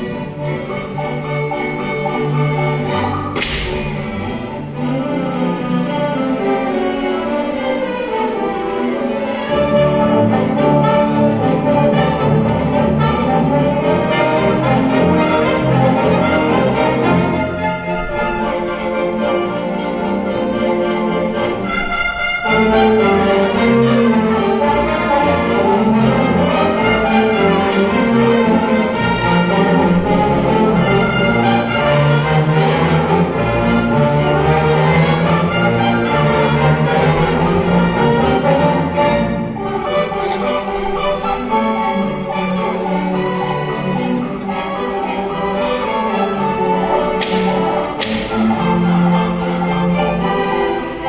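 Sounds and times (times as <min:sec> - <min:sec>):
low instruments: 0:00.0 - 0:51.0
orchestra playing christmas music: 0:00.0 - 0:51.0
sleigh bells ringing: 0:00.0 - 0:51.0.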